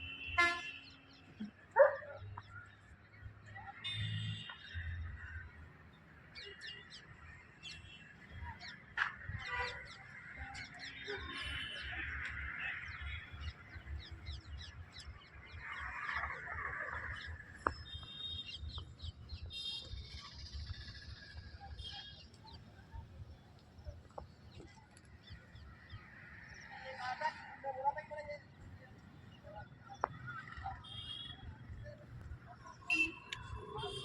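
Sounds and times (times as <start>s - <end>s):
birds chirping: 0.1s - 34.0s.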